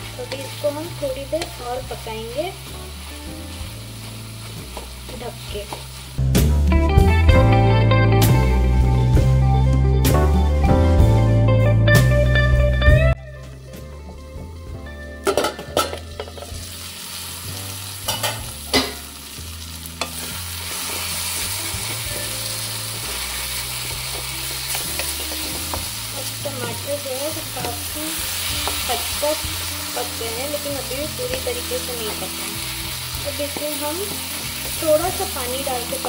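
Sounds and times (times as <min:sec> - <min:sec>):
masala sizzling: 0:00.0 - 0:09.3, 0:13.2 - 0:36.0.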